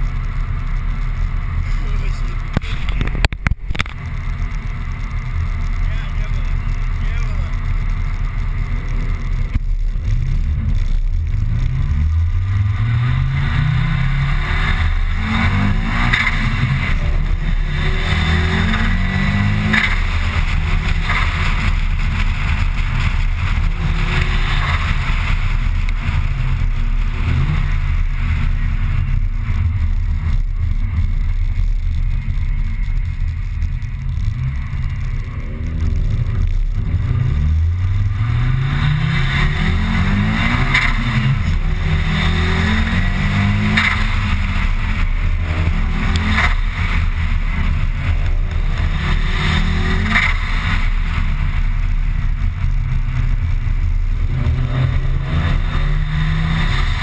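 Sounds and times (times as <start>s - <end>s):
car engine accelerating inside cabin: 0.0s - 57.0s.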